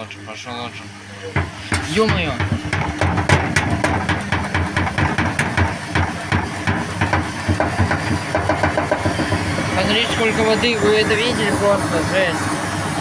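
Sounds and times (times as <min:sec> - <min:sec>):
washing machine humming: 0:00.0 - 0:13.0
washing machine drum banging: 0:01.4 - 0:12.0.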